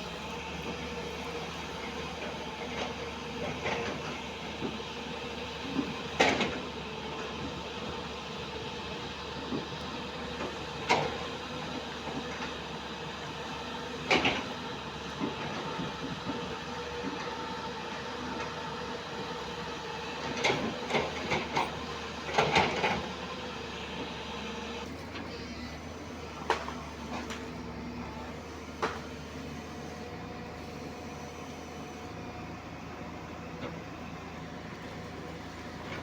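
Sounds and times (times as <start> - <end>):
excavator engine and hydraulics: 0.0 - 36.0.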